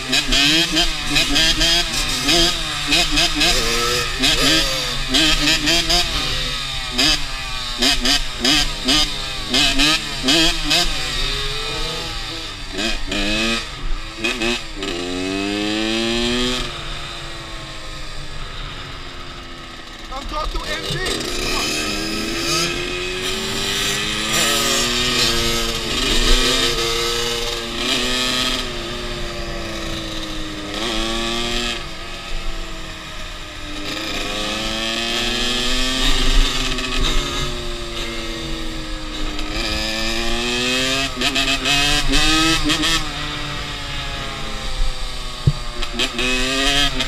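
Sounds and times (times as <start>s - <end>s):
dirt bike engine accelerating: 0.0s - 47.0s.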